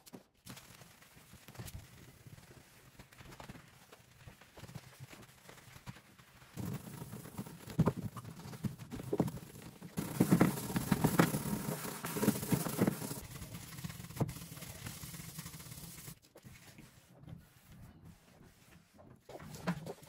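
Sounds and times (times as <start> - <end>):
wet sponge scrubbing plastic: 0.5 - 20.0.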